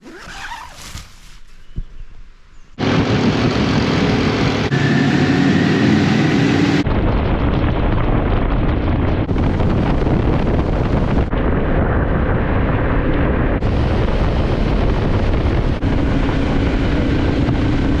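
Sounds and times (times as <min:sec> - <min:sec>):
wind on microphone: 0:00.9 - 0:18.0
motorcycle riding: 0:02.8 - 0:18.0.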